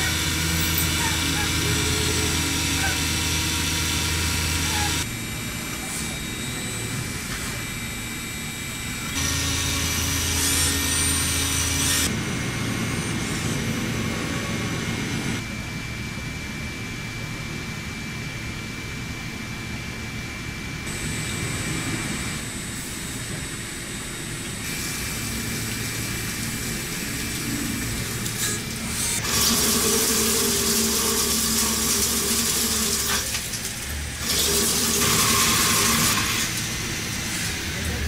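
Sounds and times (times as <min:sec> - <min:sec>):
machine hum: 0:00.0 - 0:38.0
steady motor tone: 0:00.0 - 0:38.0.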